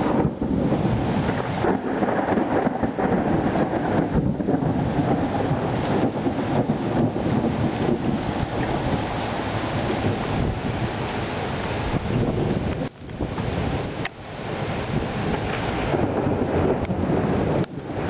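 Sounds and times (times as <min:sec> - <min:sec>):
low rumble of thunder: 0:00.0 - 0:18.0
steady rain: 0:00.0 - 0:18.0.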